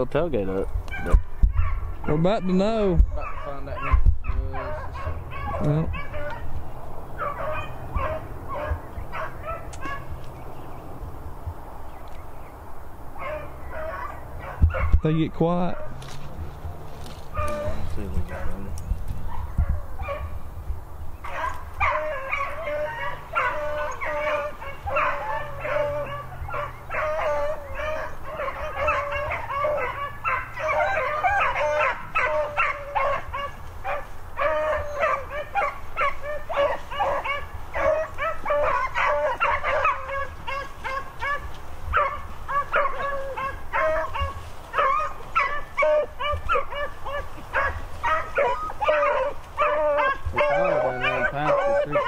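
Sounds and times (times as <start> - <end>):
dogs baying and yelping: 0.8 - 11.2, 13.1 - 20.6, 21.2 - 52.0.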